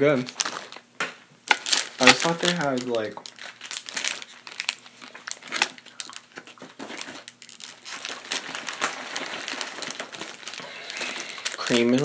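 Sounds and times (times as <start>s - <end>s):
candy wrapper crinkling: 0.0s - 12.0s.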